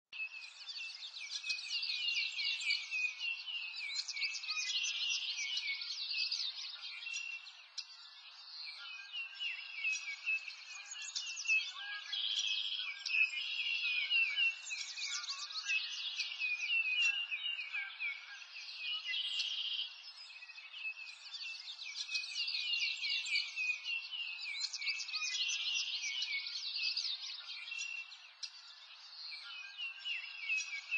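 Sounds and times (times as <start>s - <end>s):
chorus of birds chirping: 0.1s - 30.9s.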